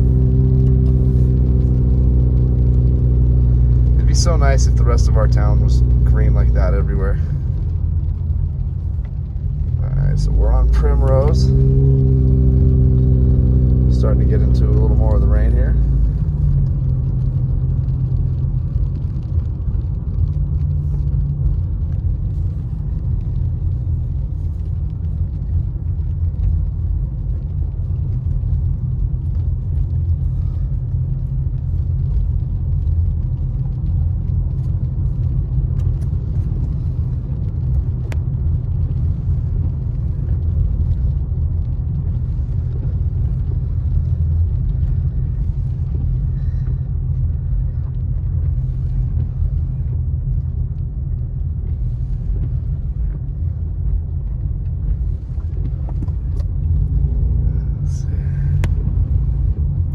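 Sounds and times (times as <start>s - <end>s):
car engine and tyres on wet road: 0.0s - 59.9s.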